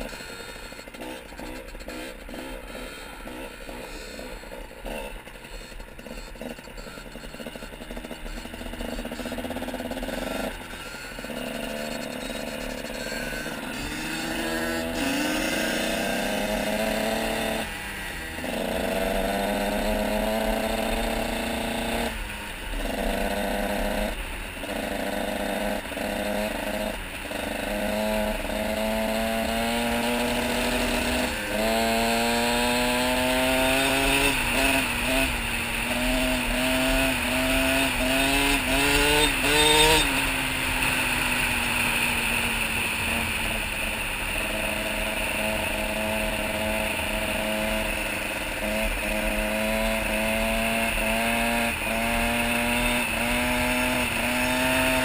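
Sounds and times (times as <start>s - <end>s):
dirt bike engine revving hard: 0.0s - 55.0s.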